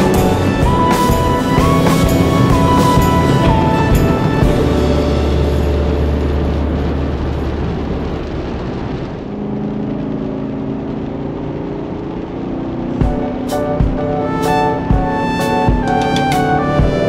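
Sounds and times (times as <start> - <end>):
car engine drone from inside cabin: 0.0 - 17.0
tyre noise on wet road: 0.0 - 17.0.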